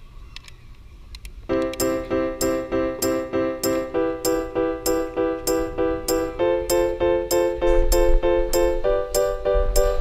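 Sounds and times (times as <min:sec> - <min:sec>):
low ambient noise: 0:00.0 - 0:10.0
repeated bright keyboard chords: 0:01.5 - 0:10.0.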